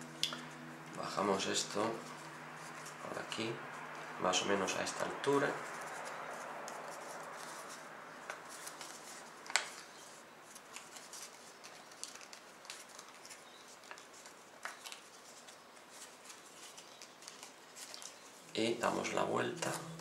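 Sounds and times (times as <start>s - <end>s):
paper crinkling as folded: 0.4s - 20.0s.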